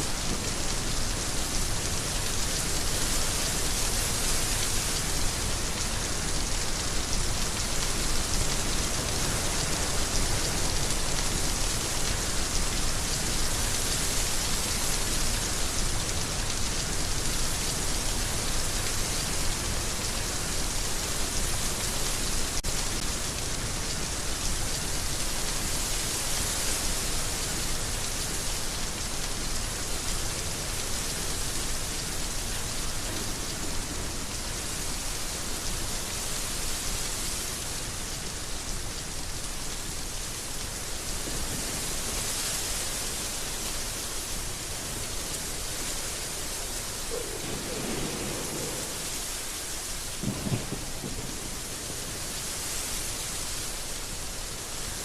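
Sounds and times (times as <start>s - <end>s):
heavy rain on surfaces: 0.0s - 55.0s.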